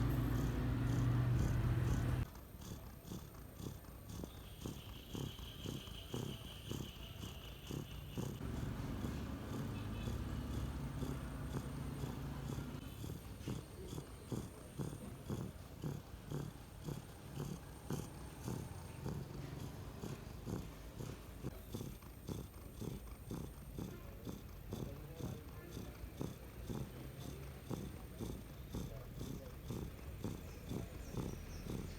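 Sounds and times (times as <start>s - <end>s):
cat purring: 0.0s - 31.9s.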